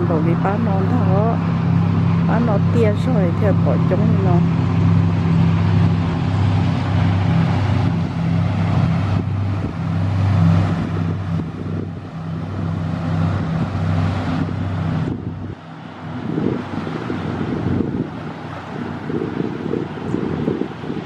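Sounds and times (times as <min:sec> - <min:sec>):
low engine drone: 0:00.0 - 0:21.0
wind gusting on microphone: 0:00.0 - 0:21.0.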